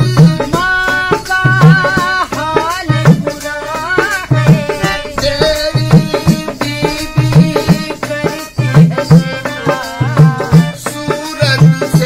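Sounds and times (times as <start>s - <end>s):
hand drum folk rhythm: 0.0s - 12.0s.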